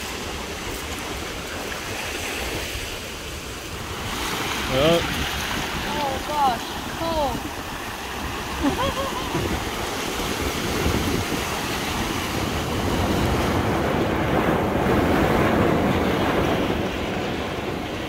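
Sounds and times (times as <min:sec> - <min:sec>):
surf washing up pebble beach: 0:00.0 - 0:18.0
wind on microphone: 0:00.0 - 0:18.0.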